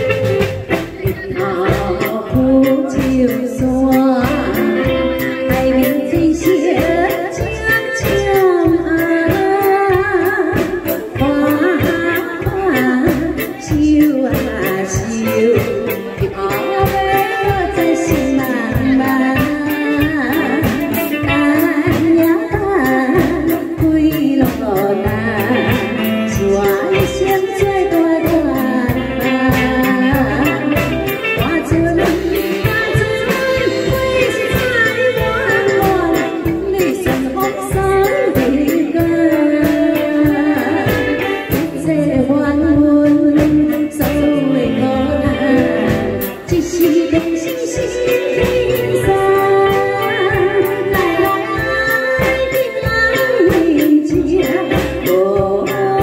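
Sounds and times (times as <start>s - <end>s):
live band with drums and guitar: 0.0s - 56.0s
woman singing into a microphone: 0.0s - 56.0s.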